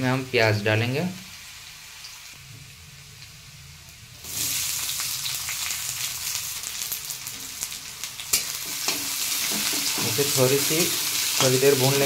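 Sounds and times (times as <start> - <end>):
garlic sizzling in hot oil: 0.2 - 12.0.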